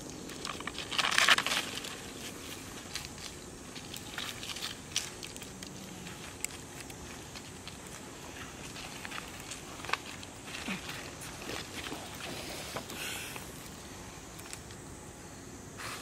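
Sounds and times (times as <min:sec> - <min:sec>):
loud crackling rustle: 0:00.0 - 0:14.8.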